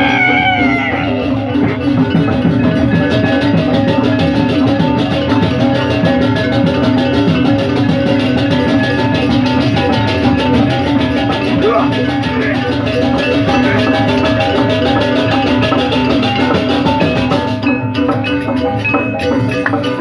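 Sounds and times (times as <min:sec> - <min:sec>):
gamelan metal percussion: 0:00.0 - 0:20.0.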